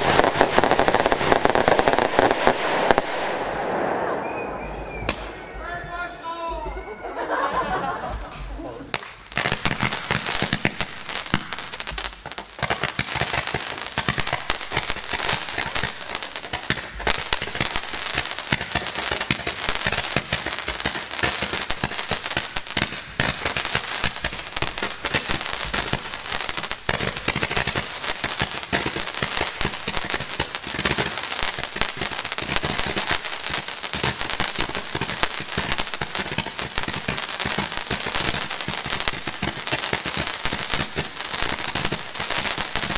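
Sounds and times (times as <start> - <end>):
fireworks popping and crackling: 0.0 - 6.9, 7.6 - 42.9.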